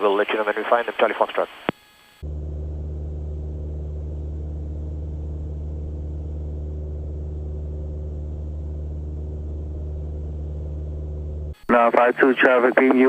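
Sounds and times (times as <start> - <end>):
airplane engine and propeller droning: 2.2 - 13.0.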